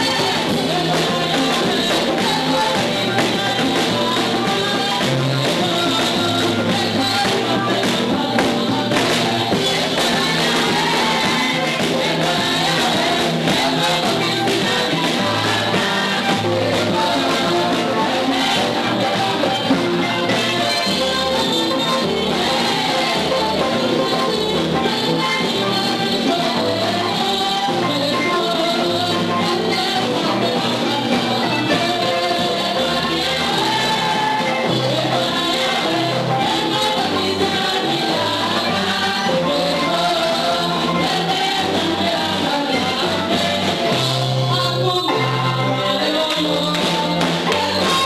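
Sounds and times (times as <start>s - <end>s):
keyboard bass and percussion: 0.0s - 48.0s
women singing together: 0.0s - 48.0s.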